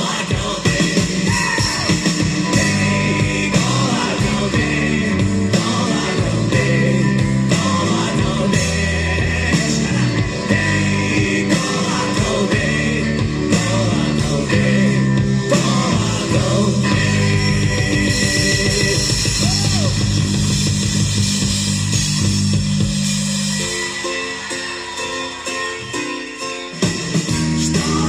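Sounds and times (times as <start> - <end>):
instrumental rock band playing: 0.0 - 28.0.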